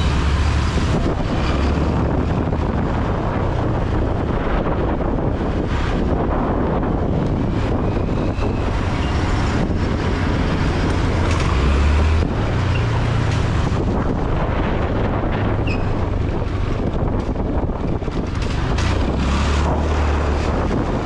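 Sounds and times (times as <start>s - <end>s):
motorbike engine rumble: 0.0s - 21.0s
road noise: 0.0s - 21.0s
wind buffeting microphone: 0.0s - 21.0s.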